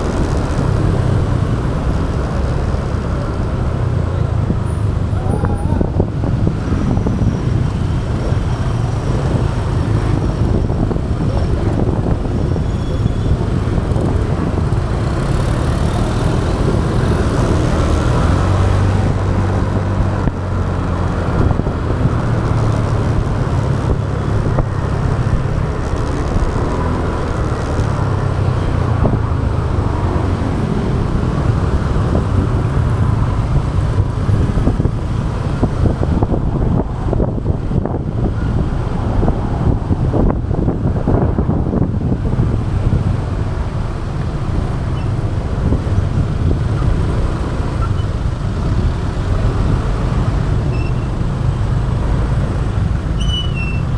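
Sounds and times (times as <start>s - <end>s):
motorbike engine and road noise: 0.0s - 53.9s
street traffic rumble: 0.0s - 53.9s.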